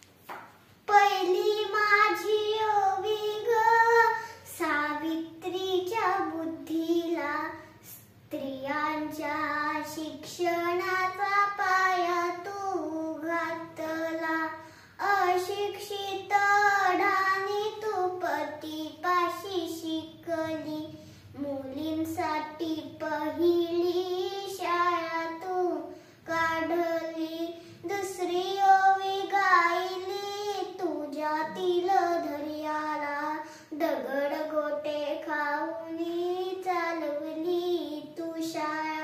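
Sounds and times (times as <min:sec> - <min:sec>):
girl singing unaccompanied: 0:00.0 - 0:39.0.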